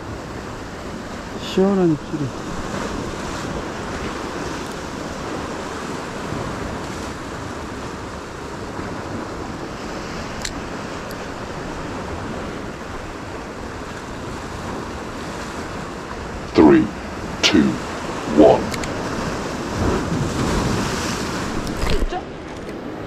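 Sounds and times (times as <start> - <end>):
surf breaking over rocks: 0.3 - 22.6
wind on microphone: 2.0 - 23.0.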